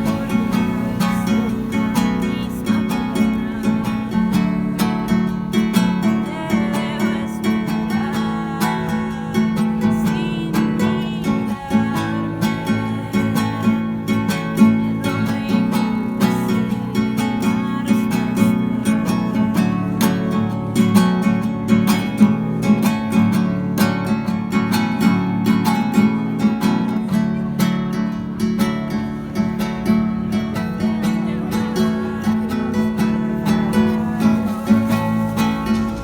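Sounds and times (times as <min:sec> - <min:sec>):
strummed acoustic guitar music: 0:00.0 - 0:36.0.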